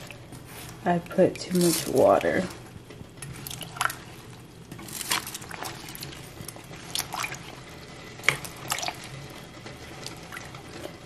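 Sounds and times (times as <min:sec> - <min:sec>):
spoon stirring water in pot: 0:00.0 - 0:02.6, 0:03.2 - 0:11.0
water popping on hot stovetop: 0:00.0 - 0:11.0.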